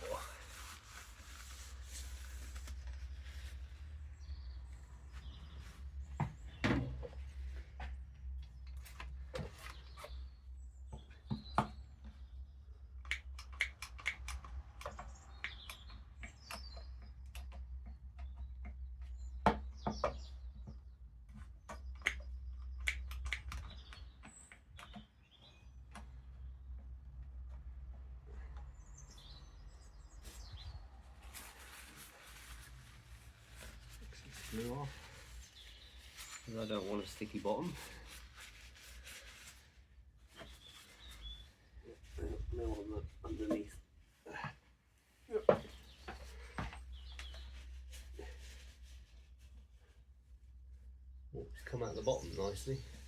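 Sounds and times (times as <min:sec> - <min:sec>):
birds chirping: 0:00.0 - 0:48.6, 0:51.1 - 0:53.0.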